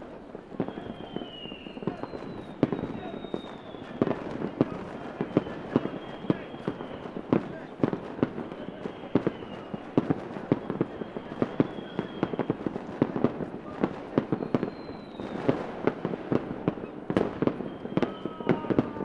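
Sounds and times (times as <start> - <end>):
firework whistle: 0.0 - 19.0
fireworks bangs: 0.0 - 19.0.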